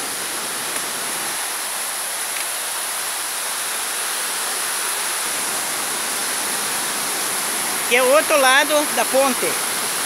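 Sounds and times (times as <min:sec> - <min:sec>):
small waterfall rushing: 0:00.0 - 0:10.0.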